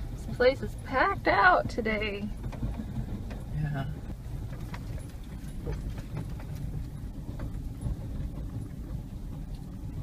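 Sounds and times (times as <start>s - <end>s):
car engine and tyres rumbling: 0.0s - 10.0s
faint clicks and rattles: 0.0s - 10.0s.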